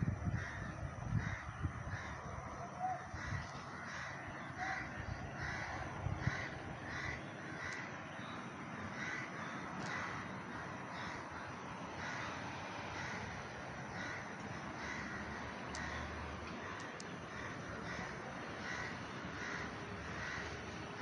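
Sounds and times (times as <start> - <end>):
crows cawing: 0.3 - 21.0.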